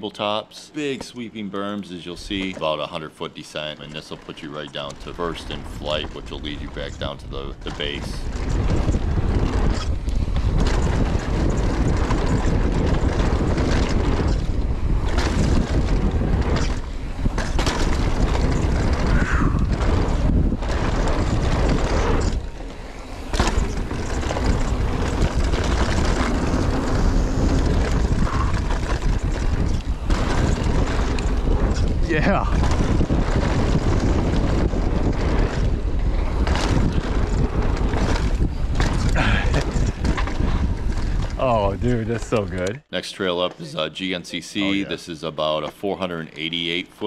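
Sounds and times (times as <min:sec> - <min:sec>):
wind rushing over microphone: 0:04.5 - 0:42.7.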